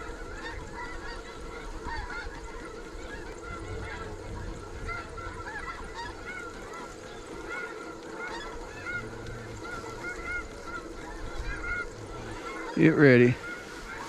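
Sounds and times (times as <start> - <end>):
geese honking: 0.0 - 14.0
wind rumbling on microphone: 0.0 - 14.0.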